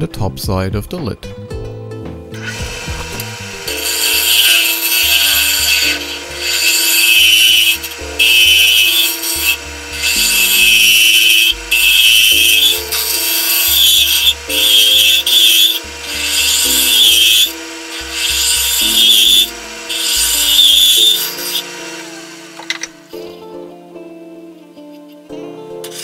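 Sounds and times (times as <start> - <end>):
soft background music: 0.0 - 26.0
lathe tool scraping wood: 2.4 - 23.4.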